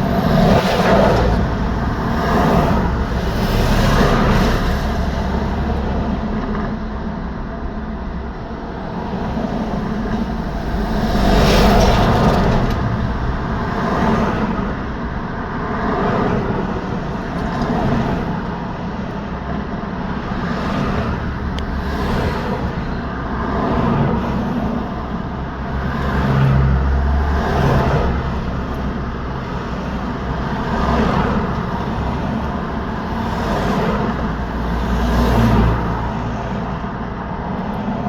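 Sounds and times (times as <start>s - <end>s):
cars and trucks passing: 0.0s - 38.0s
continuous low traffic rumble: 0.0s - 38.0s.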